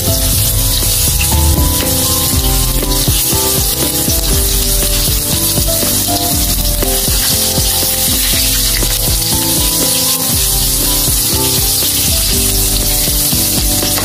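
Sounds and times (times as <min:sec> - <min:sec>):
background music: 0:00.0 - 0:14.0
meat deep-frying in oil: 0:00.0 - 0:14.0.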